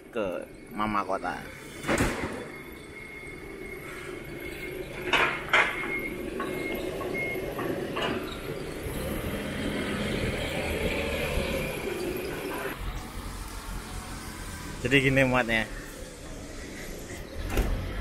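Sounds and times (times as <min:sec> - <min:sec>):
forklift engine running: 0:02.4 - 0:18.0.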